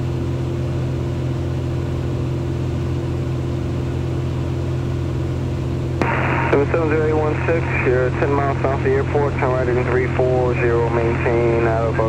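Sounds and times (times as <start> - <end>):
airplane engine drone in flight: 0.0 - 12.0.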